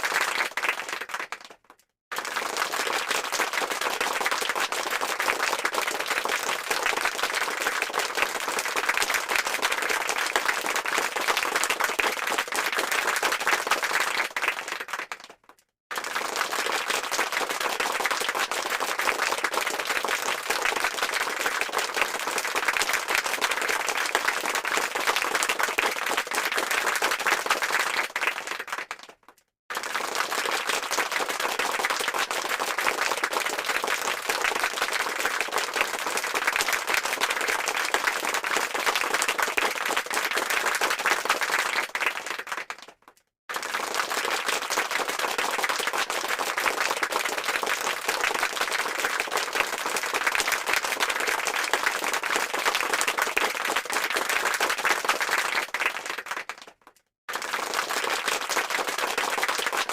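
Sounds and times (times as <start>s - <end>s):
crowd applause: 0.0s - 59.9s.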